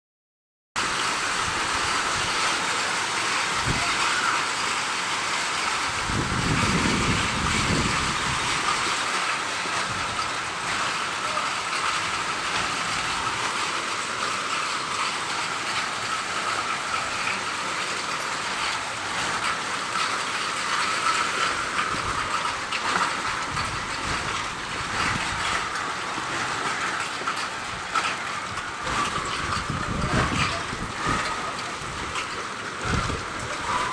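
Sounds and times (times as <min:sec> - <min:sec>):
rain pattering: 0:00.8 - 0:33.9.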